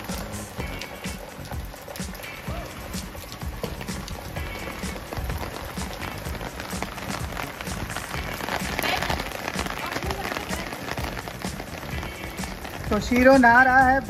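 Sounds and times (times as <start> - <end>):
rain on concrete: 0.0 - 14.0.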